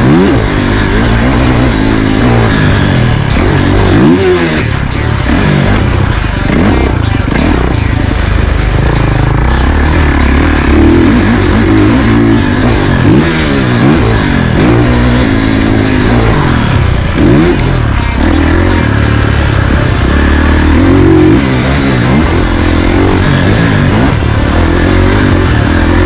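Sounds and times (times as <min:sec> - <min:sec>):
background music: 0:00.0 - 0:26.0
dirt bike engine revving: 0:00.0 - 0:26.0.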